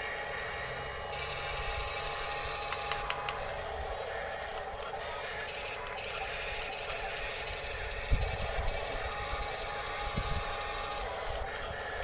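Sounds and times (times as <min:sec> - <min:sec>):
electric motors whirring: 0:00.0 - 0:12.0.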